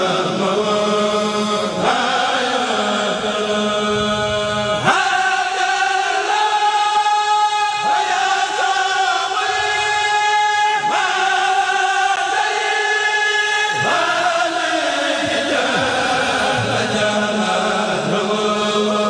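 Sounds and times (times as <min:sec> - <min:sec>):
men's choir chanting unaccompanied: 0:00.0 - 0:19.0.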